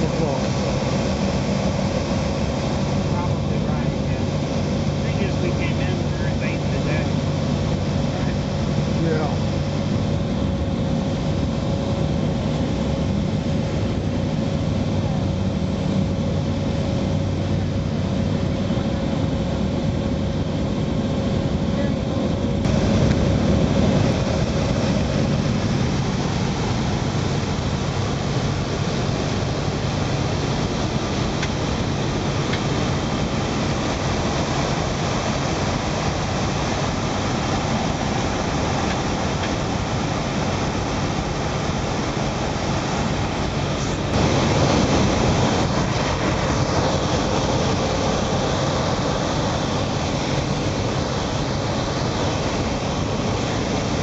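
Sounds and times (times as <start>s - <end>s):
airplane engine drone: 0.0s - 54.0s
rushing air in cabin: 0.0s - 54.0s.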